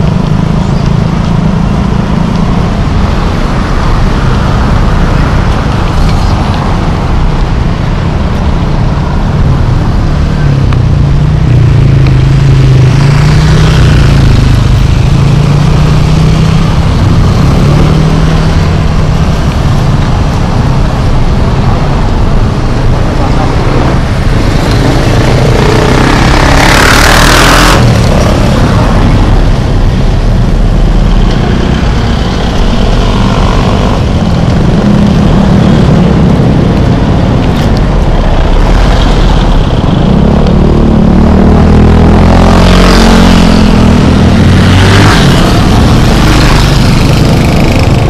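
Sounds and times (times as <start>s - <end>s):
cars and motorcycles passing: 0.0s - 48.0s
heavy low rumble: 0.0s - 48.0s.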